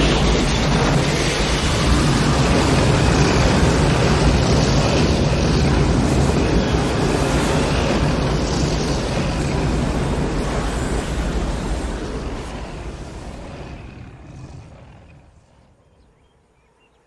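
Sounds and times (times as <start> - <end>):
strong rushing wind: 0.0 - 15.8.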